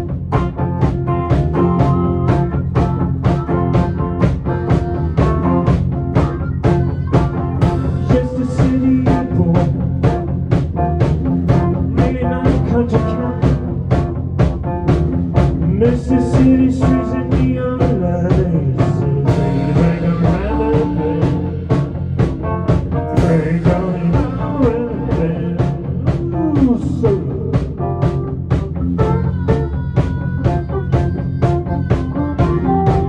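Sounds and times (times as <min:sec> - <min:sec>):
bass guitar: 0:00.0 - 0:33.0
electric guitar bending notes: 0:00.0 - 0:33.0
steady drum beat: 0:00.0 - 0:33.0.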